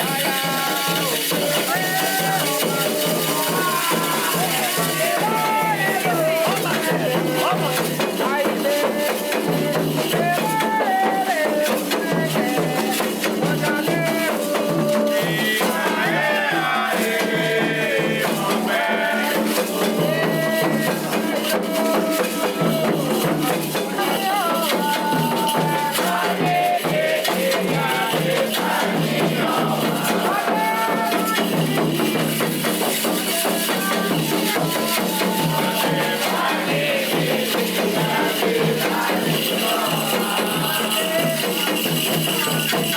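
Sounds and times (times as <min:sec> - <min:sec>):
percussion: 0:00.0 - 0:42.9
shaken rattles: 0:00.0 - 0:42.9
voices singing: 0:00.0 - 0:42.9.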